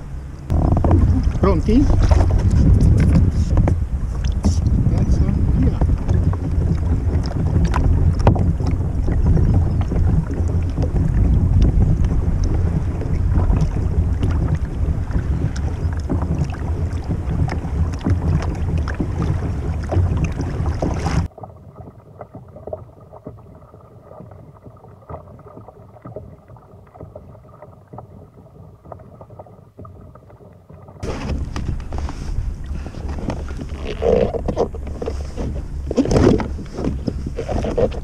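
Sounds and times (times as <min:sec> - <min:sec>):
wind buffeting microphone: 0:00.0 - 0:30.0, 0:30.9 - 0:38.0
water splashing against hull: 0:00.0 - 0:38.0.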